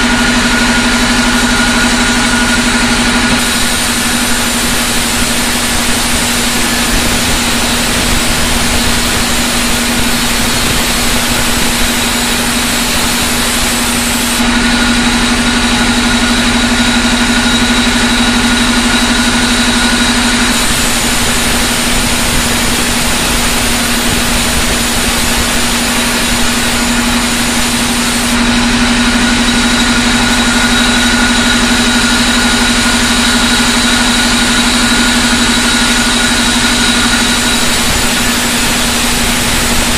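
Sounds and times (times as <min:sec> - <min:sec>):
band saw humming: 0:00.0 - 0:39.9
band saw whine: 0:00.0 - 0:39.9.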